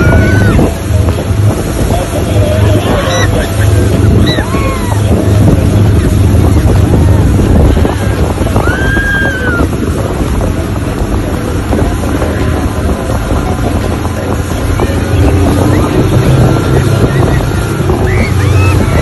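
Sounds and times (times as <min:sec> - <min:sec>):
motorboat engine running: 0:00.0 - 0:19.0
rush of wake water: 0:00.0 - 0:19.0
wind buffeting on microphone: 0:00.0 - 0:19.0.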